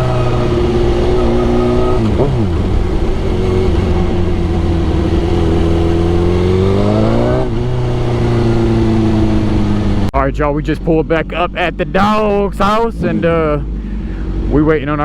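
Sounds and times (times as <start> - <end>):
motorcycle engine revving: 0.0 - 10.1, 10.9 - 15.0
gear change: 0.0 - 15.0.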